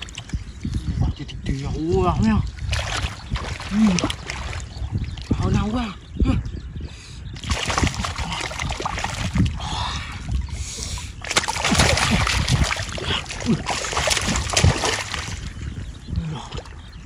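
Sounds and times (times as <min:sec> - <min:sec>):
water splashing and sloshing: 0:00.0 - 0:00.8, 0:02.4 - 0:05.6, 0:07.4 - 0:17.0.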